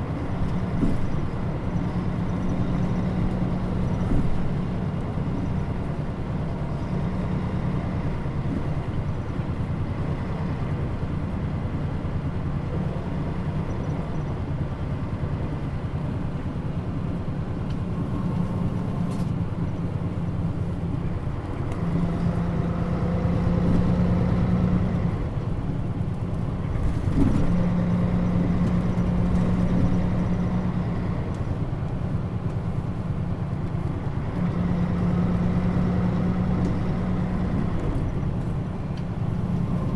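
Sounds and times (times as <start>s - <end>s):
bus engine hum: 0.0s - 39.9s
road noise: 0.0s - 39.9s.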